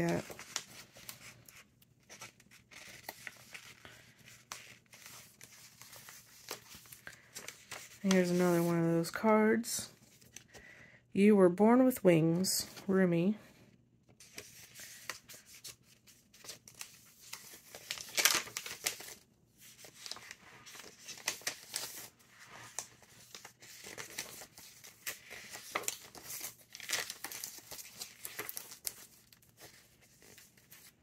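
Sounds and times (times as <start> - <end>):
paper pages rustling: 0.0 - 9.1, 14.1 - 31.0.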